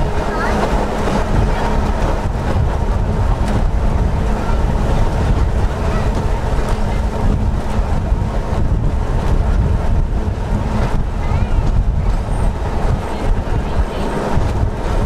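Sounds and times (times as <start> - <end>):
sharp clicks from rails: 0.0 - 15.0
tram wheels and motors rumbling: 0.0 - 15.0
wind buffeting microphone: 0.0 - 15.0.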